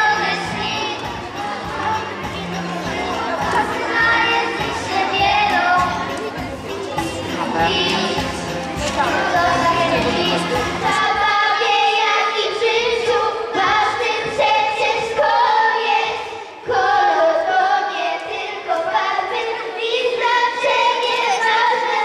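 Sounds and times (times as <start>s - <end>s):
children singing together: 0.0s - 22.0s.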